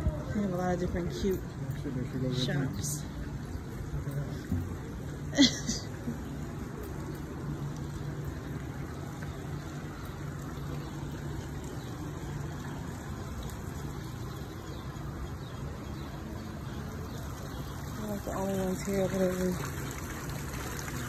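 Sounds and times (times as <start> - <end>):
fountain splashing: 0.0 - 21.0.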